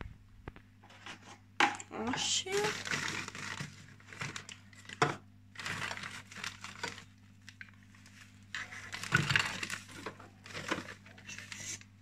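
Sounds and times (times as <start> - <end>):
rustling and crinkling: 0.0 - 1.5, 2.1 - 12.0
steady low hum: 0.0 - 12.0.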